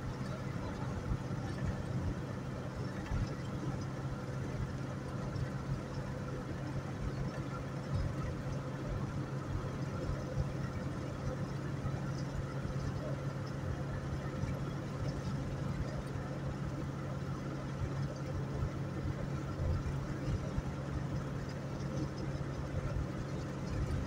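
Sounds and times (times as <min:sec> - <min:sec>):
car engine hum inside cabin: 0:00.0 - 0:24.0.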